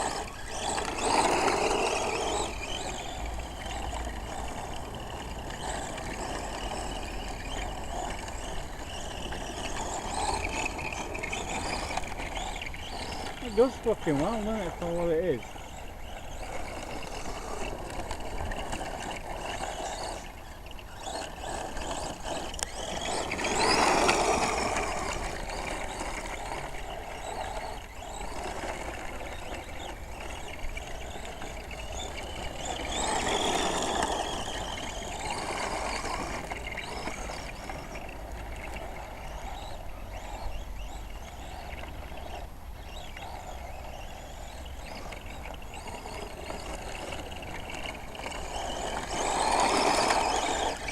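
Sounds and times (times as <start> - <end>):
model truck motor whine: 0.0 - 50.9.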